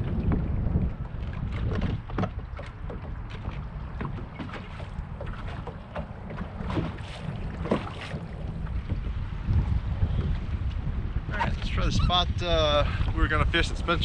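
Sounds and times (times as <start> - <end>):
water lapping against hull: 0.0 - 14.0
wind buffeting microphone: 0.0 - 14.0.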